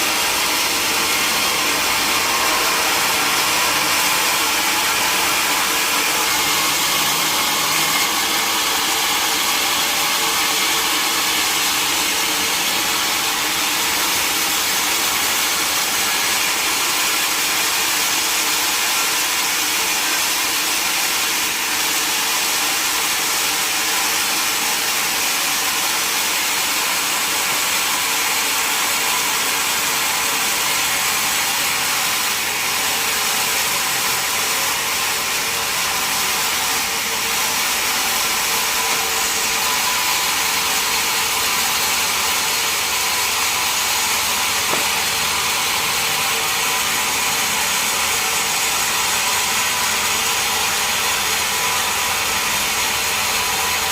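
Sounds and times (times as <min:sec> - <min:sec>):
saw cutting wood: 0:00.0 - 0:53.9.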